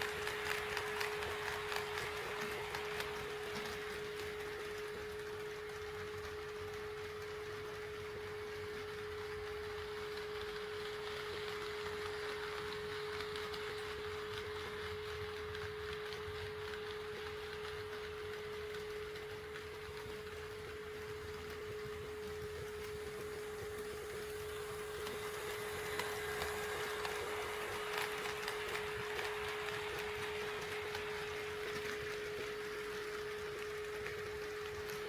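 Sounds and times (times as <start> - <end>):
model train high hum: 0.0 - 35.0
wheels clicking on rails: 0.0 - 35.0.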